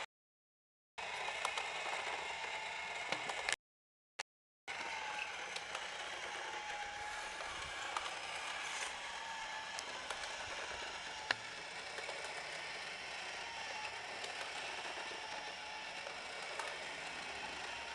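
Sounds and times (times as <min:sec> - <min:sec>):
mechanical whir of gears: 0:01.0 - 0:03.6, 0:04.7 - 0:17.9.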